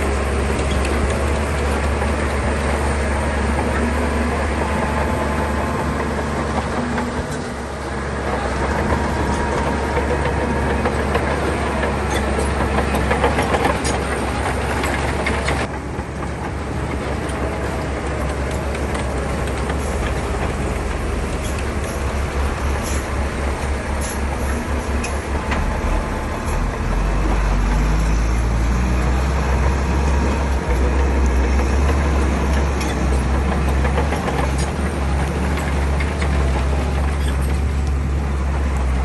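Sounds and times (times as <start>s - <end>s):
bulldozer diesel engine running: 0.0s - 39.0s
steel tracks clanking: 0.0s - 39.0s.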